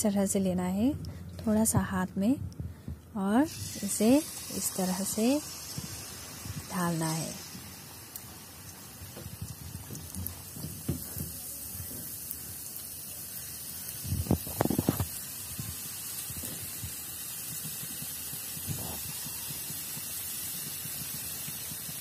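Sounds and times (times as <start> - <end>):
batter sizzling in hot oil: 3.4 - 22.0.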